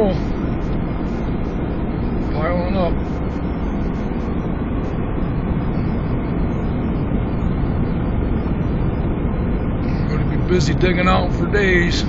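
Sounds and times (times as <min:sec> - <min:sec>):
car engine running: 0:00.0 - 0:12.0
tires rolling over snow: 0:00.0 - 0:12.0.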